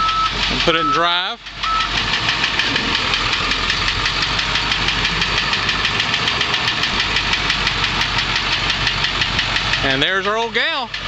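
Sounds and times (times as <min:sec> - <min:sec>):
diesel engine clatter: 0:00.0 - 0:11.0.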